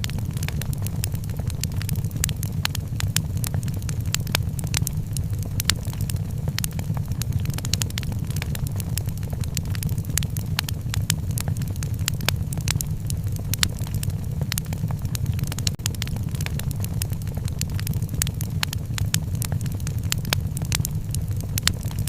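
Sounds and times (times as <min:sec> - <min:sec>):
low fire rumble: 0:00.0 - 0:22.0
sharp pops and snaps: 0:00.0 - 0:22.0
wood fire crackling: 0:00.0 - 0:22.0.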